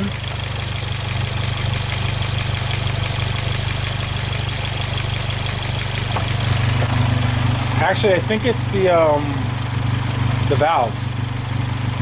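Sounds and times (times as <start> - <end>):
car engine idling with ticking: 0.0 - 12.0.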